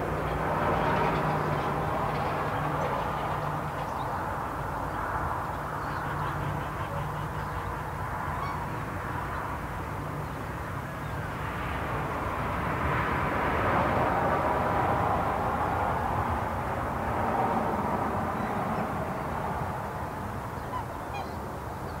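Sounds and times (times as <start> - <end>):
highway traffic roar: 0.0 - 22.0.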